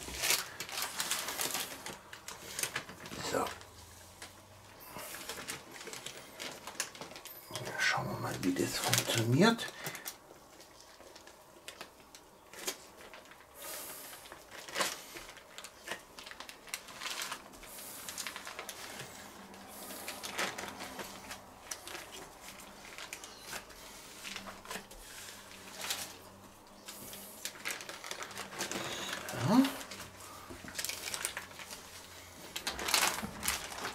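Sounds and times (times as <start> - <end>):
baking paper rustling and crinkling: 0.0 - 33.9.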